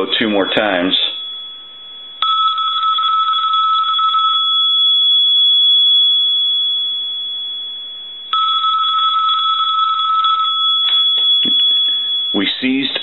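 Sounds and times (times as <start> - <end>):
telephone bell ringing: 0.6 - 13.0.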